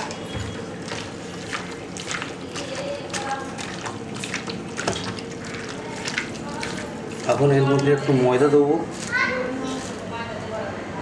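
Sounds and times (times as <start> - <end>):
chicken squelching in marinade: 0.0 - 9.0.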